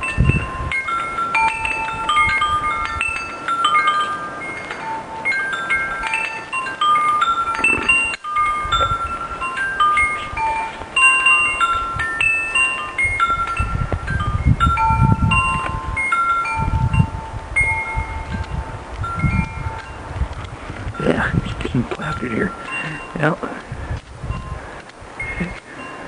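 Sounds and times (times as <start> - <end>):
wind chimes ringing: 0.0 - 26.0
wind gusts on microphone: 0.0 - 26.0.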